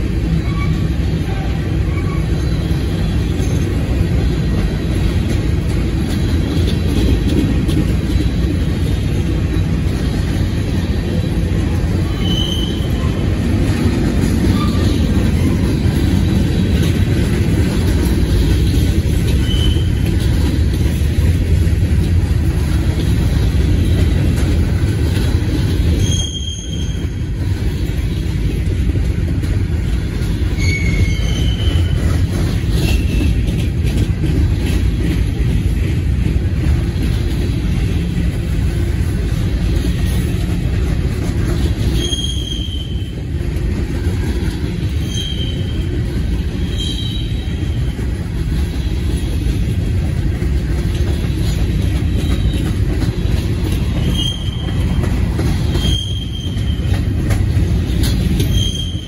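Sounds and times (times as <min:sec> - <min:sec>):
train wheels rumbling on rails: 0:00.0 - 0:59.0
wheels squealing: 0:00.2 - 0:28.3, 0:29.7 - 0:35.2, 0:39.0 - 0:59.0.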